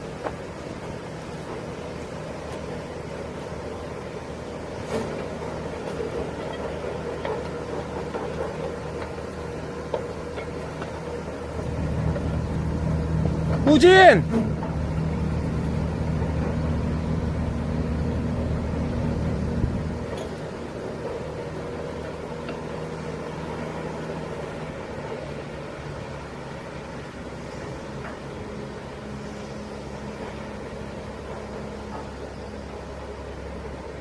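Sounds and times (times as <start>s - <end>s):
pile driver diesel engine running: 0.0s - 34.0s.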